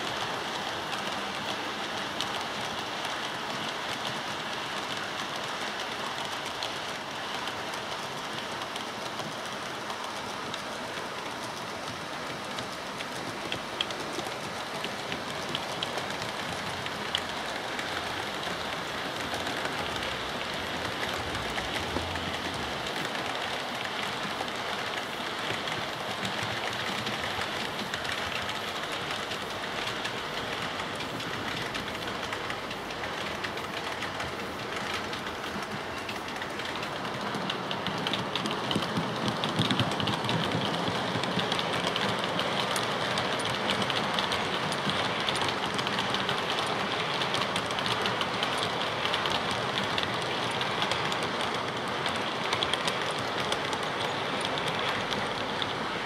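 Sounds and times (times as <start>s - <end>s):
model train running: 0.0s - 56.0s
wheels clicking over rail joints: 0.0s - 56.0s.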